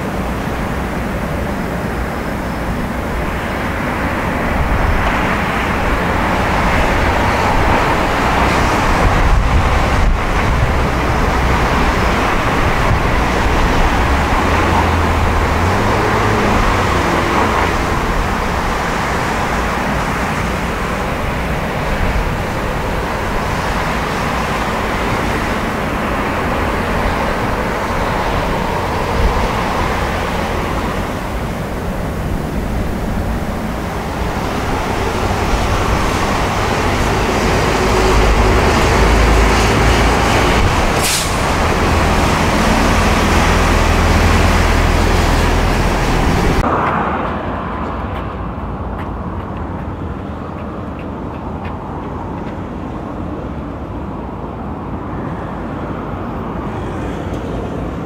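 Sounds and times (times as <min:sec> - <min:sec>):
distant traffic hiss and rumble: 0:00.0 - 0:58.0.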